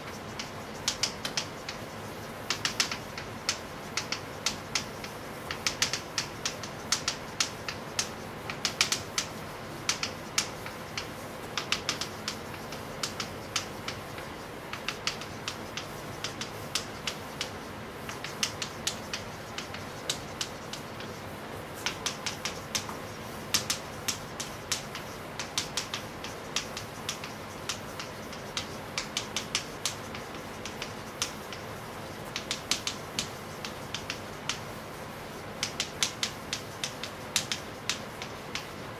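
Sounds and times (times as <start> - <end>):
chalk tapping on chalkboard: 0.0 - 38.9.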